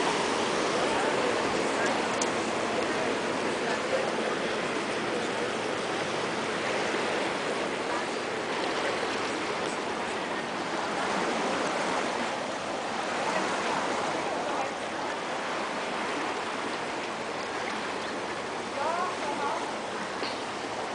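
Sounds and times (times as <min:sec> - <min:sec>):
water rushing past a boat: 0:00.0 - 0:20.9.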